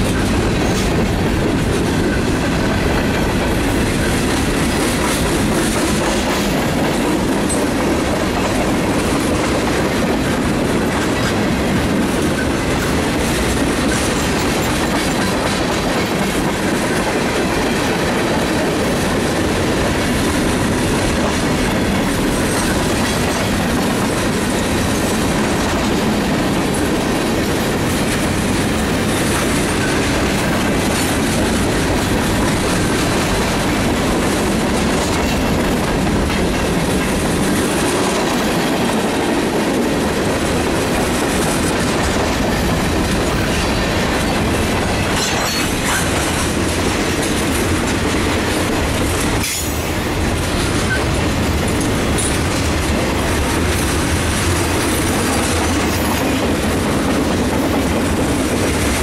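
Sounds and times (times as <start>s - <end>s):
steel wheels clacking on rails: 0.0s - 59.0s.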